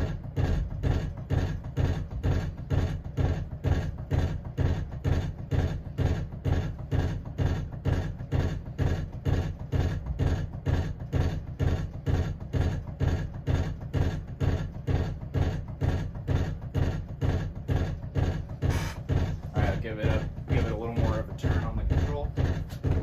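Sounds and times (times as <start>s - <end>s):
ceiling fan thumping: 0.0s - 23.0s.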